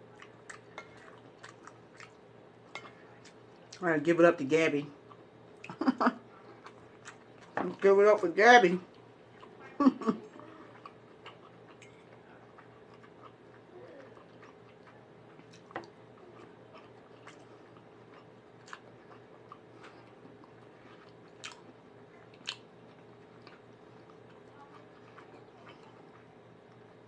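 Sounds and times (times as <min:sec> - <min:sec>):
person chewing food: 0:00.0 - 0:03.8, 0:05.0 - 0:07.8, 0:08.9 - 0:09.7, 0:10.3 - 0:26.9.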